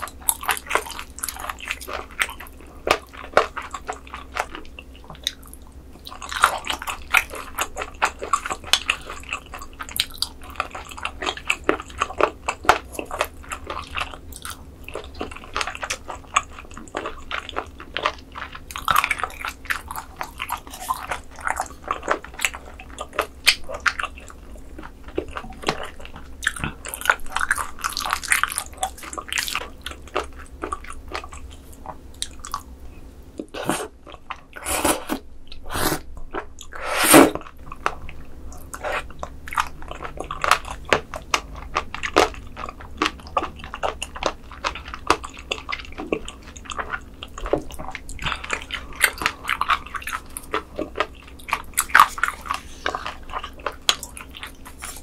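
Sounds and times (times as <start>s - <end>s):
wet chewing mouth sounds: 0.0s - 32.7s, 33.4s - 55.0s.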